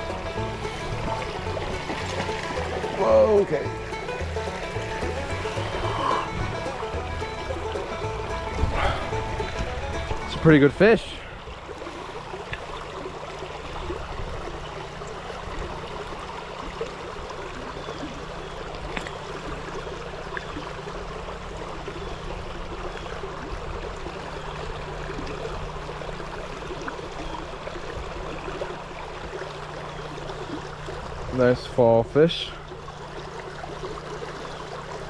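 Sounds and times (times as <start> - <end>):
creek water over rocks: 0.0 - 35.0.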